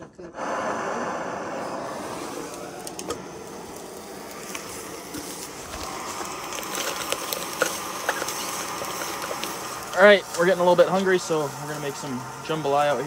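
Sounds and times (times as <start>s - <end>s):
gas stove burner hissing: 0.2s - 13.0s.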